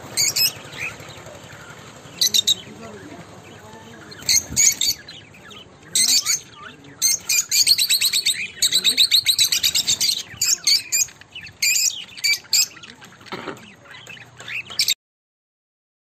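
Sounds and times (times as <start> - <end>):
birds chattering calls: 0.0 - 15.0.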